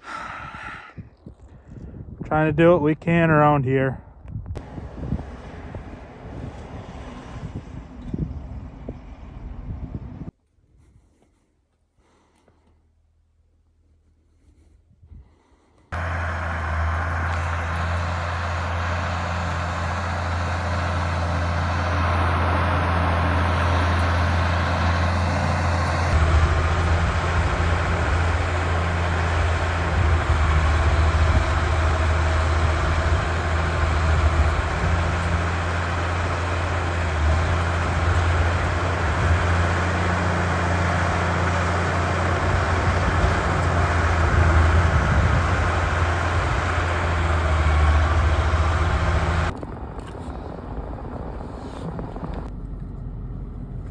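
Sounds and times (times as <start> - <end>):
farm machinery engine droning: 4.6 - 10.3, 16.0 - 53.9.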